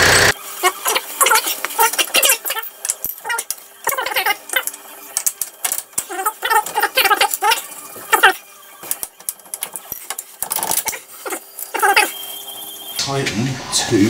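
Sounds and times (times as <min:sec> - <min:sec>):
hand tools clinking on steel: 0:00.9 - 0:12.2.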